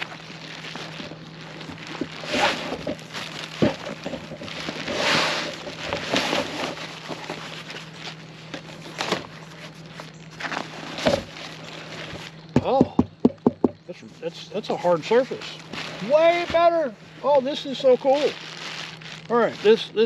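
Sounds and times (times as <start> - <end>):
fabric rustling: 0.0 - 12.4, 15.0 - 20.0
plastic wrapping crinkling: 0.0 - 12.5, 14.6 - 20.0.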